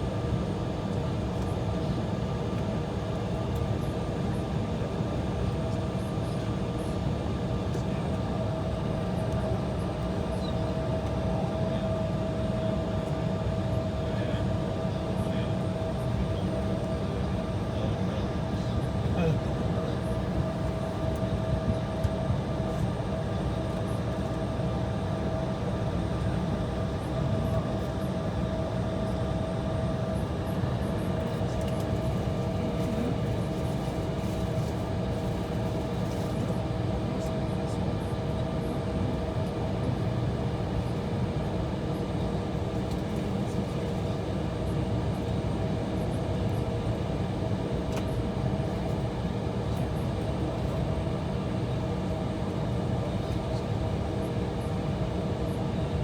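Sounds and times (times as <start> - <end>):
jet engines idling in cabin: 0.0 - 56.0.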